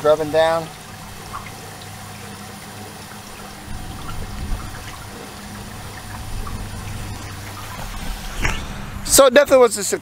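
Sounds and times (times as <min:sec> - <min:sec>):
water from hose filling trough: 0:00.0 - 0:09.7.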